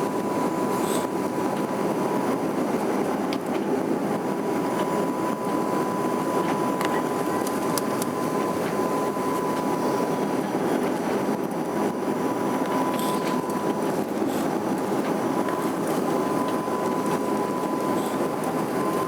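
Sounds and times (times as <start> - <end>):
airliner cabin engine noise: 0.0 - 19.0
thin steady whine: 0.0 - 19.0.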